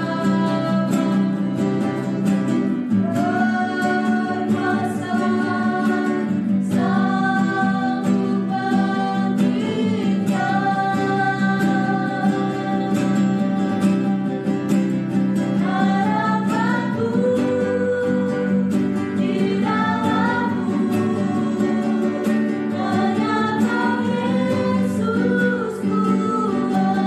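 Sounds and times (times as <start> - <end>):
group singing worship song: 0.0 - 27.0
strummed acoustic guitars: 0.0 - 27.0.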